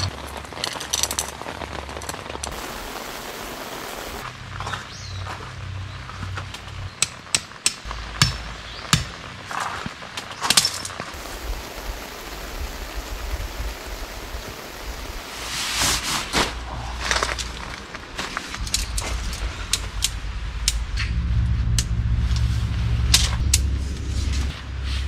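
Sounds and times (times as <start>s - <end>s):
steady rain hiss: 0.0s - 4.5s, 6.4s - 25.0s
rustle: 0.0s - 25.0s.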